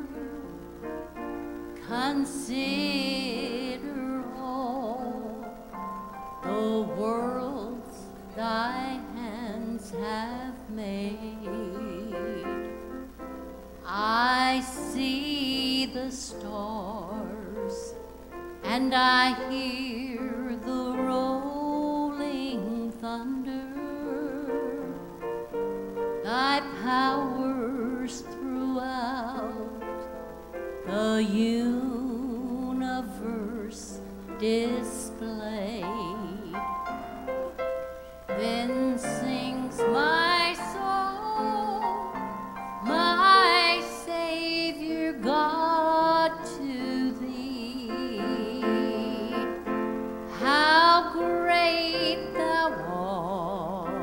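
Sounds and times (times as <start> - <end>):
woman singing with vibrato: 0.0 - 0.8, 1.6 - 5.7, 6.4 - 13.0, 13.8 - 25.2, 26.2 - 30.0, 30.8 - 37.6, 38.2 - 54.0
grand piano: 0.0 - 54.0.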